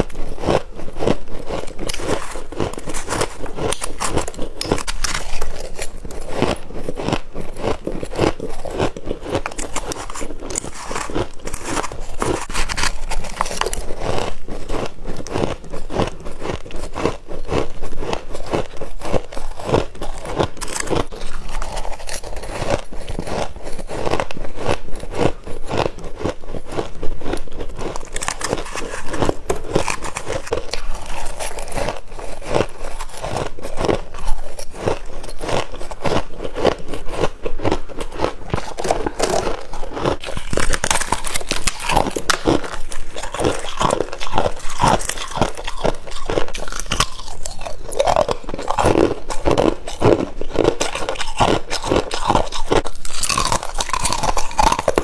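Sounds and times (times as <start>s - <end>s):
frost being chewed with crunches: 0.0s - 55.0s.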